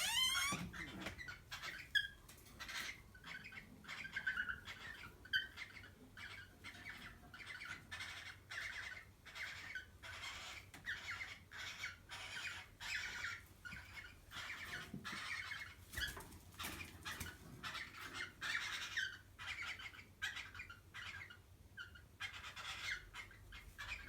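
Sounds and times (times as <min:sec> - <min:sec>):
cockatiel squawks and chirps: 0:00.0 - 0:15.7, 0:17.6 - 0:24.0.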